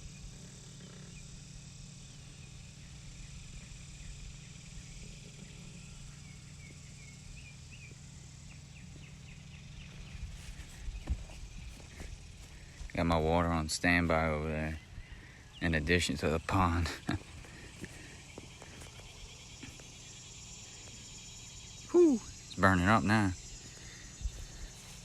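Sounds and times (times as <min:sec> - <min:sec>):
faint chirping: 0:00.0 - 0:25.0
microwave oven humming: 0:00.0 - 0:25.0.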